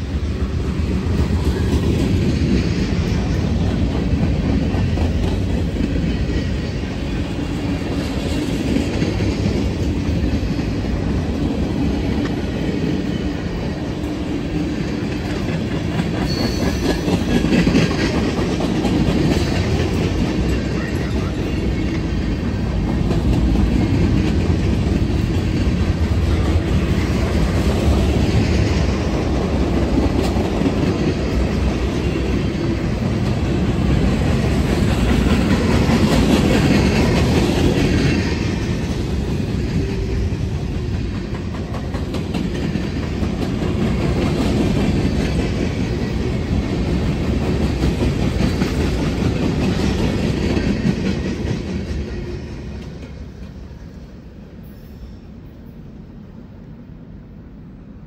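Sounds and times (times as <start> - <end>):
freight train rolling past: 0.0 - 58.0
wheels clacking over rail joints: 0.9 - 53.6.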